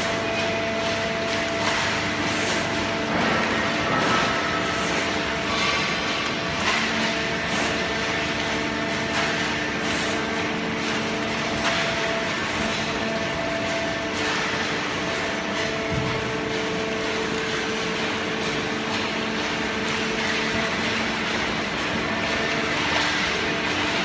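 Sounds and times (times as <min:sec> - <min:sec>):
baling press machine drone: 0:00.0 - 0:24.0.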